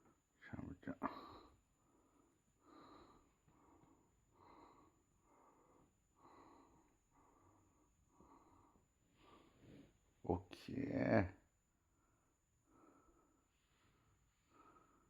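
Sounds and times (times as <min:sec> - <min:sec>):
soft rhythmic breathing: 0:00.0 - 0:15.0.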